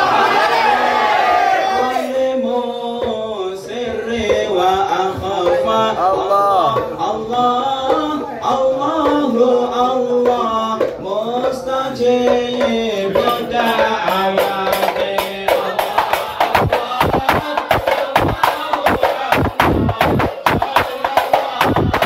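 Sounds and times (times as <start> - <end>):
men singing: 0.0 - 22.0
frame drums beating fast: 2.9 - 22.0.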